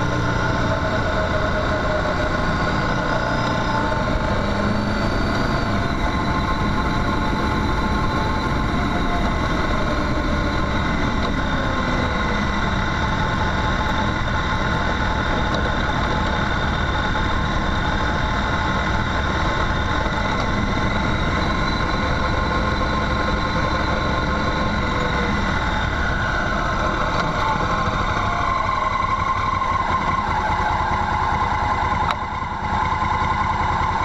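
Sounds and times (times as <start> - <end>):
constant rushing noise: 0.0 - 34.0
motorcycle engine running: 0.0 - 34.0.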